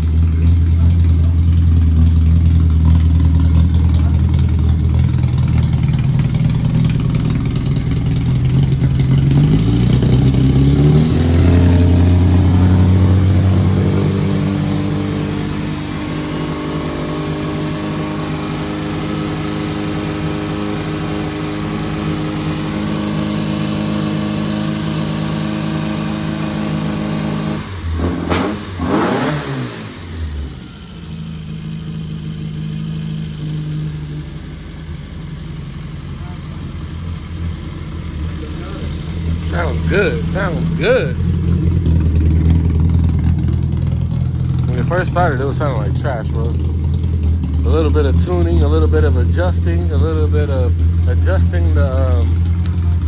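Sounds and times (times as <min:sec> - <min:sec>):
car engine revving and idling: 0:00.0 - 0:53.0.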